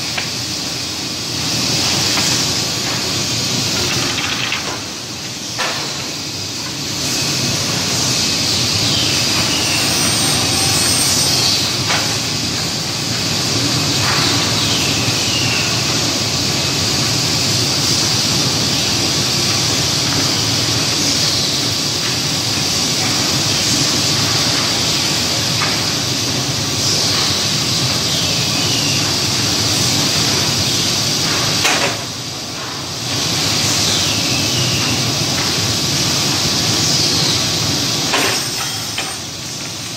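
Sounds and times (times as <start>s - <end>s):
hissing press machine: 0.0s - 39.9s.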